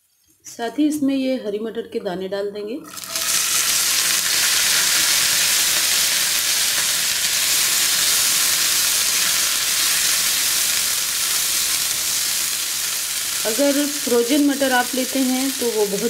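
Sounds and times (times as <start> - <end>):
peas sizzling in oil: 2.9 - 16.0.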